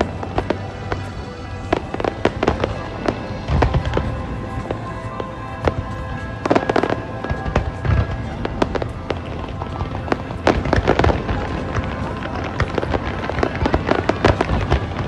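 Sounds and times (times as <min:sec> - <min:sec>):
fireworks booming and cracking: 0:00.0 - 0:15.0
music playing: 0:00.0 - 0:15.0.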